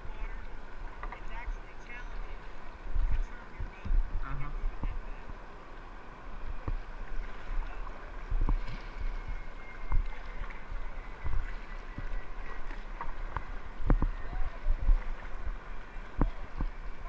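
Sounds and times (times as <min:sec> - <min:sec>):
kayak paddle strokes splashing: 0:00.0 - 0:17.0
low microphone rumble: 0:00.0 - 0:17.0
river water flowing: 0:00.0 - 0:17.0.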